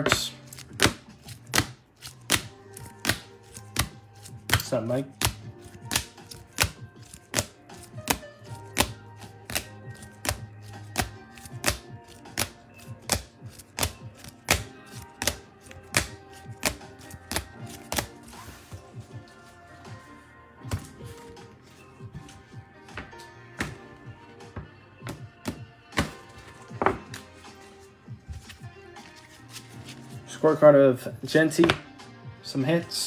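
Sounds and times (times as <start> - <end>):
background music with steady beat: 0.0 - 33.0.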